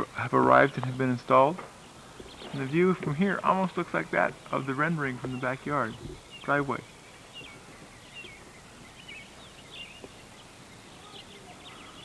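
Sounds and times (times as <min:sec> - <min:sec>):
outdoor background hiss: 0:00.0 - 0:12.0
faint bird chirps: 0:01.8 - 0:03.8, 0:04.4 - 0:12.0.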